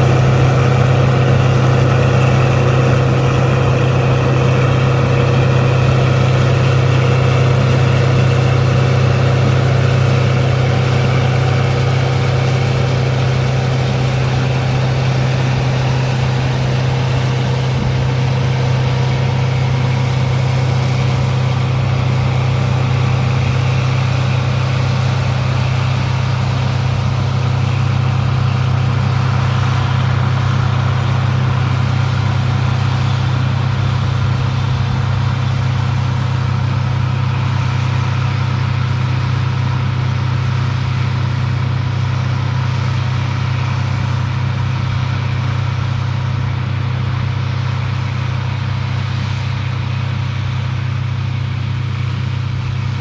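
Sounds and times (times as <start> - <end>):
farm machine engine drone: 0.0 - 53.0.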